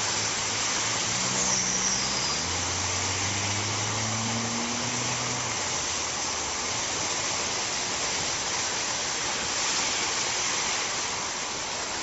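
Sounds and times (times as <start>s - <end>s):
rushing water from downpour: 0.0s - 12.0s.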